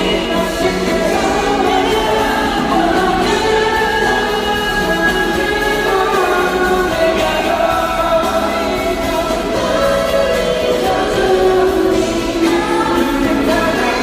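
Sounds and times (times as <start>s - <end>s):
live pop concert music: 0.0s - 14.0s
person singing: 0.0s - 14.0s.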